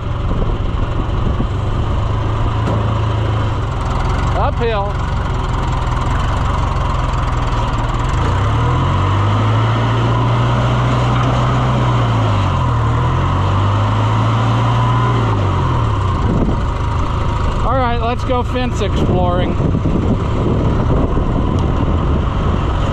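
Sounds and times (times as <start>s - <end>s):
farm vehicle engine revving: 0.0s - 22.9s.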